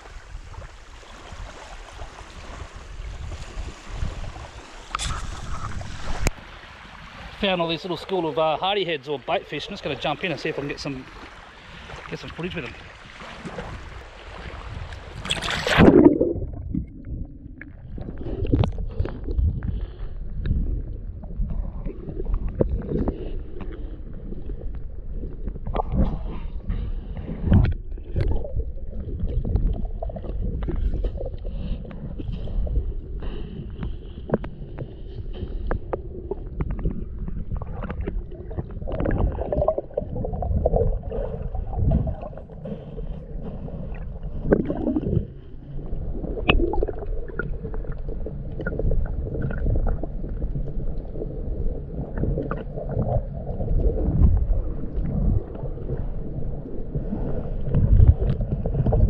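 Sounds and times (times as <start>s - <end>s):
muffled underwater rumble: 0.0s - 6.8s, 11.8s - 59.0s.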